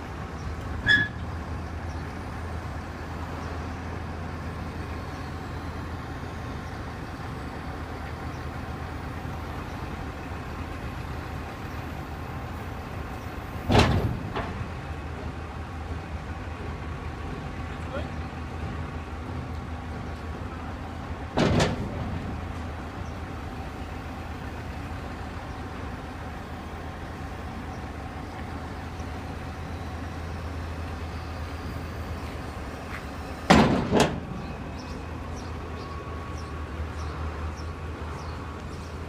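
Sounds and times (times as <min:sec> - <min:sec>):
tractor diesel engine idling: 0:00.0 - 0:39.0.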